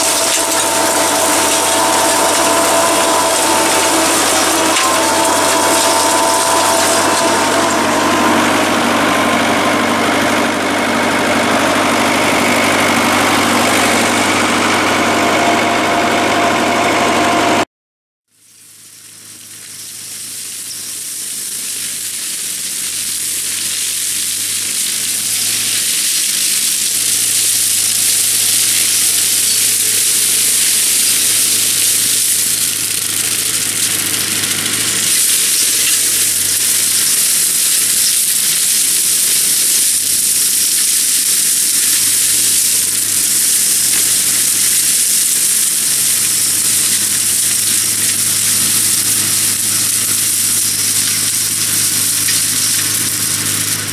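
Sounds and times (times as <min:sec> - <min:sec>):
mulcher chopping reeds: 0:00.0 - 0:14.8, 0:19.1 - 0:53.9
tractor engine hum: 0:00.0 - 0:17.6, 0:18.4 - 0:53.9.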